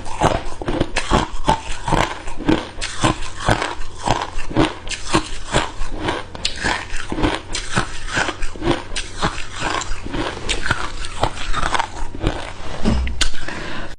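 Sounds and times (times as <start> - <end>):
ice cubes crunching: 0.1 - 12.6.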